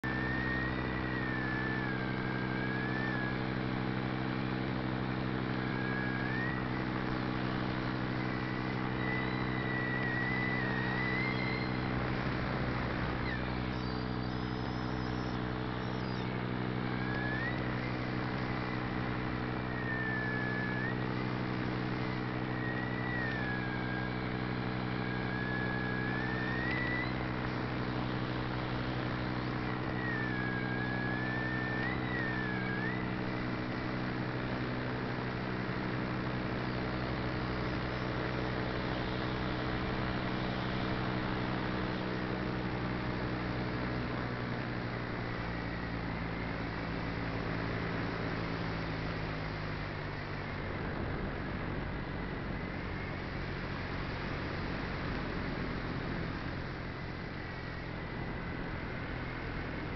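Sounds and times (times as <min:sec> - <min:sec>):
aircraft propeller engine: 0:00.0 - 0:59.9
thin whine: 0:00.0 - 0:59.9.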